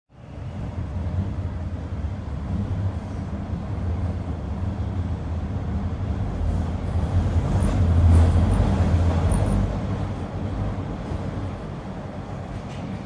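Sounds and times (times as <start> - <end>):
subway car rumbling on track: 0.1 - 13.0.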